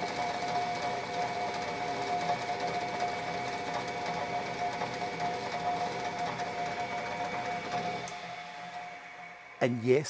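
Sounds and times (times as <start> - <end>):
metal lathe whine: 0.0 - 9.6.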